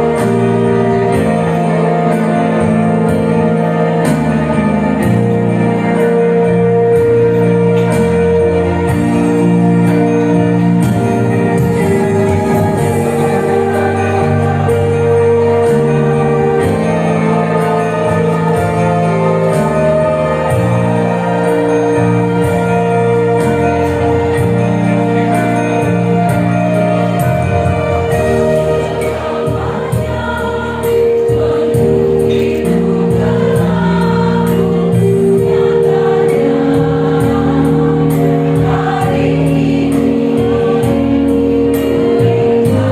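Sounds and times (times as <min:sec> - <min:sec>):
slow music of held chords: 0:00.0 - 0:42.9.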